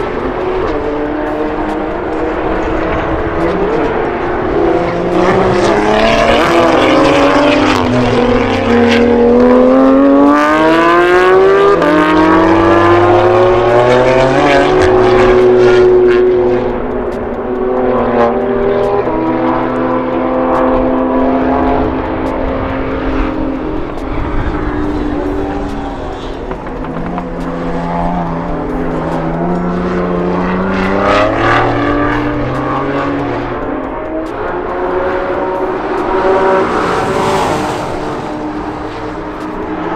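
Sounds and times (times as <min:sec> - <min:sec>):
race car engines accelerating: 0:00.0 - 0:39.9.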